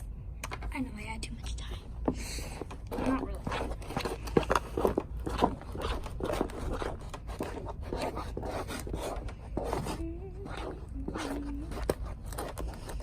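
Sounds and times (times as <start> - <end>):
slime being stirred: 2.2 - 13.0.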